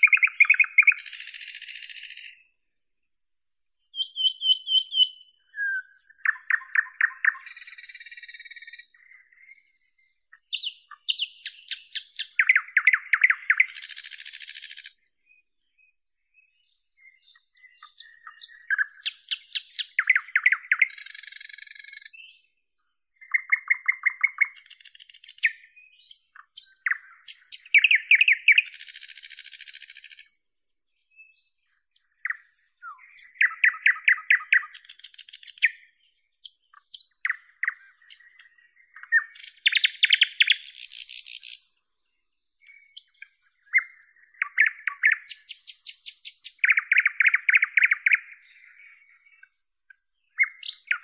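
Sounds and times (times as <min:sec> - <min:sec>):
nightingale singing: 0:00.0 - 0:02.6, 0:03.4 - 0:51.0.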